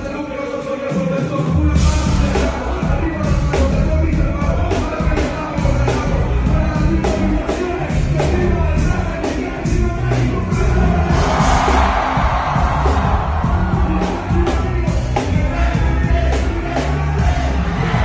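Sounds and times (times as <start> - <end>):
person rapping: 0.0 - 11.2, 13.4 - 18.0
hip-hop beat with heavy bass: 0.0 - 18.0.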